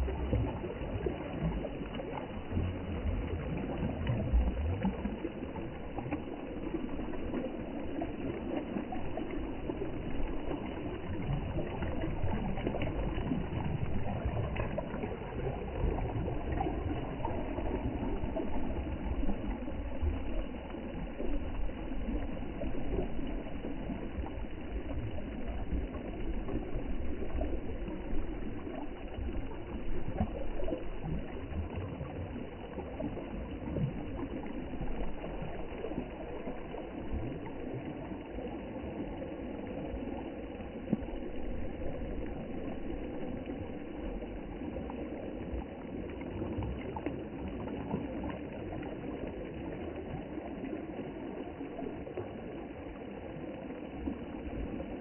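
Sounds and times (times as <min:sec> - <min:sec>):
sea water rushing: 0:00.0 - 0:55.0.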